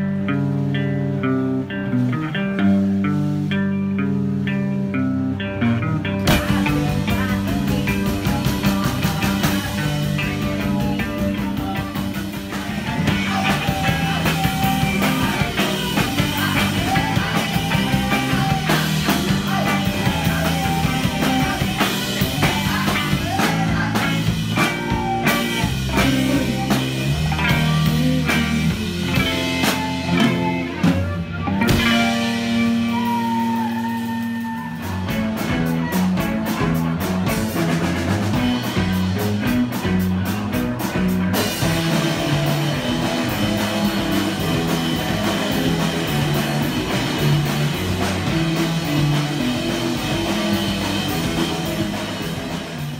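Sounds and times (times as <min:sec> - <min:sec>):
live rock band playing: 0:00.0 - 0:52.9
person singing: 0:06.0 - 0:52.9.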